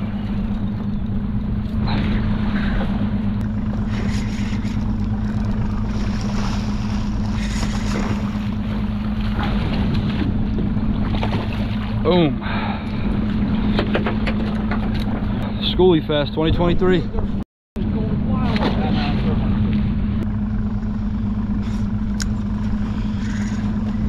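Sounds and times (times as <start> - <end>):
boat engine idling: 0.0 - 24.0
water noise: 0.0 - 24.0
wind: 0.0 - 24.0.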